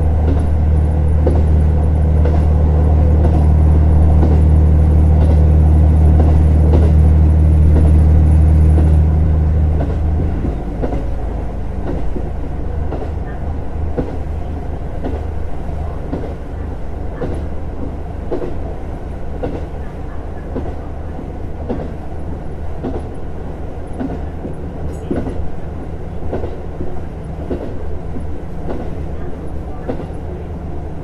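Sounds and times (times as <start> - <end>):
diesel railcar drone: 0.0 - 31.0.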